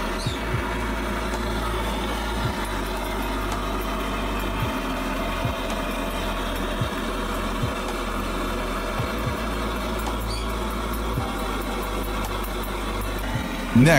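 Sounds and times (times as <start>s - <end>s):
gas torch rushing: 0.0s - 13.9s
low hum: 0.0s - 13.9s.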